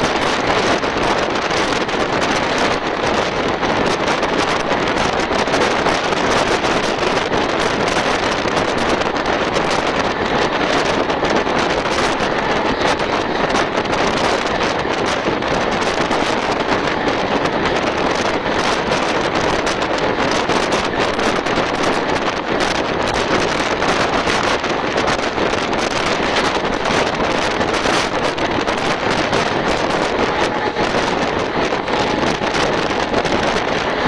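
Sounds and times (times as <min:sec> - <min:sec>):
train rushing at speed: 0:00.0 - 0:34.0
wind buffeting microphone: 0:00.0 - 0:34.0.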